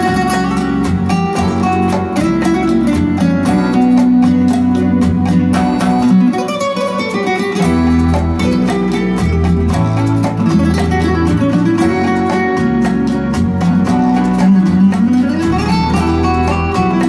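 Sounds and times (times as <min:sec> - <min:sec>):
flamenco guitar music with bass: 0:00.0 - 0:17.0.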